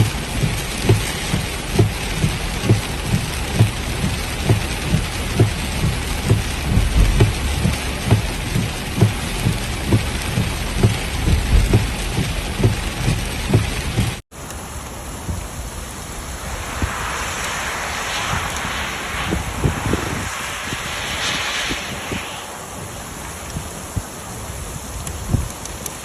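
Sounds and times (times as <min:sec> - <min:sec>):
large raindrops thudding: 0:00.0 - 0:21.0
heavy rain: 0:00.0 - 0:26.0
wind: 0:00.0 - 0:26.0.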